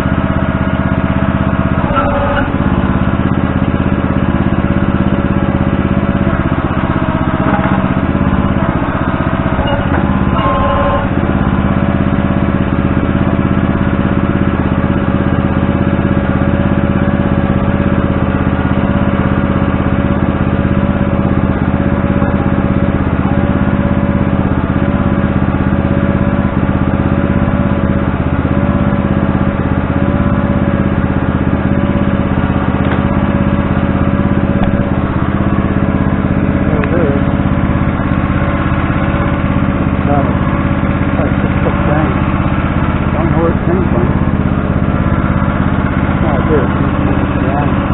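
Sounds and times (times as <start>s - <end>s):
digging machine engine running: 0.0s - 47.9s.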